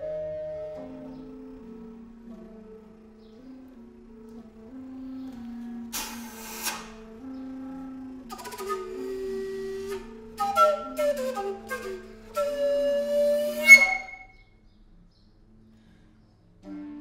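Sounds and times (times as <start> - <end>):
recorders playing: 0.0 - 14.4.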